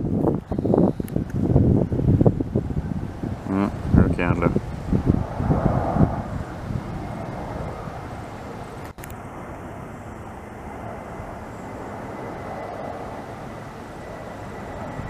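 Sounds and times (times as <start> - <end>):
jet airliner engine rushing: 0.0 - 15.0.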